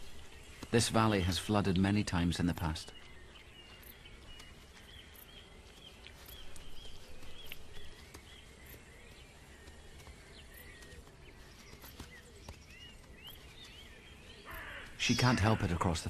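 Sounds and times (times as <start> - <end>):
rustle: 0.0 - 15.9
small birds chirping: 0.0 - 16.0
soft outdoor hiss: 0.0 - 16.0.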